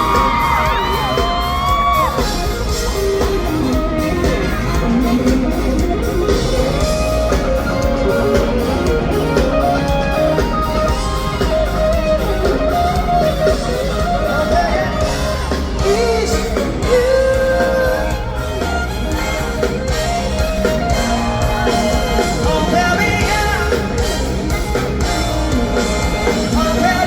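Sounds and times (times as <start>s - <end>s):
bass guitar: 0.0s - 27.0s
drums: 0.0s - 27.0s
electric guitar lead melody: 0.0s - 27.0s.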